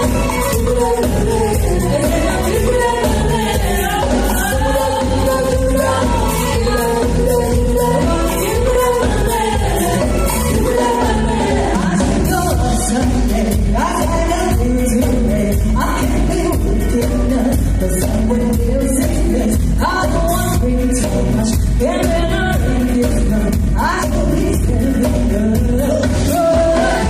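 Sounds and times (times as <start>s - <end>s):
upbeat pop song with vocals: 0.0s - 27.0s.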